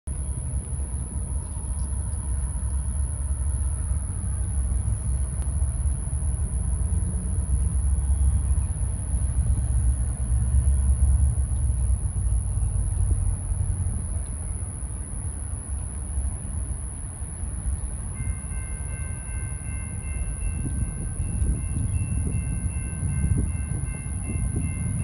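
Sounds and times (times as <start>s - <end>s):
diesel locomotive rumble: 0.1s - 25.0s.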